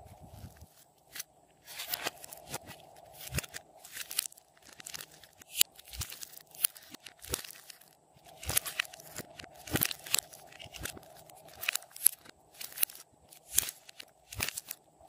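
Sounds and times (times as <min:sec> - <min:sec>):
modelling clay squishing and tearing: 0:00.2 - 0:14.8.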